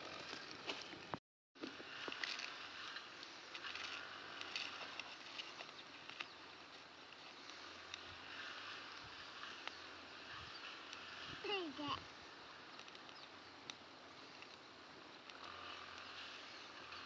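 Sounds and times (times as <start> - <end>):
small wood fire crackling: 0.0 - 17.0.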